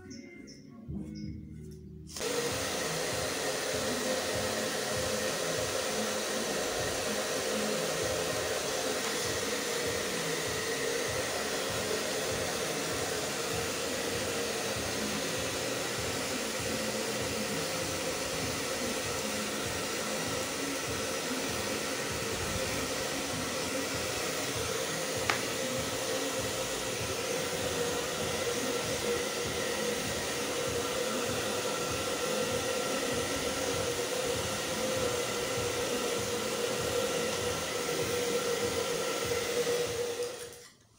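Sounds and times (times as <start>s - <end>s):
hair dryer blowing: 2.1s - 40.7s.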